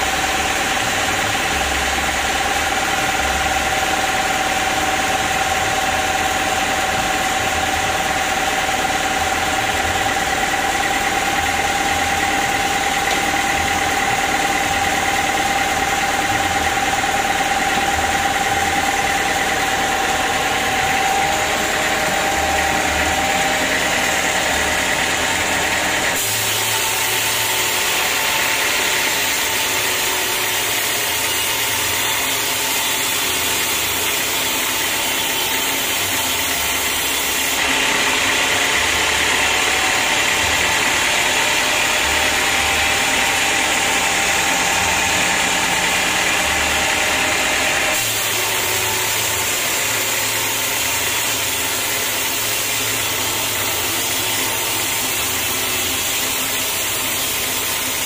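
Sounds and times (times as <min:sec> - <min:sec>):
band saw cutting log: 0:00.0 - 0:58.0
band saw droning: 0:00.0 - 0:58.0.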